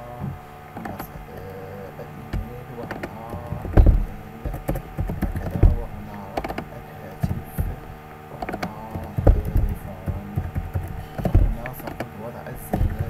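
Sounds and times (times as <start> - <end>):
steady low hum: 0.0 - 13.0
keyboard typing: 0.8 - 7.8, 8.4 - 12.1.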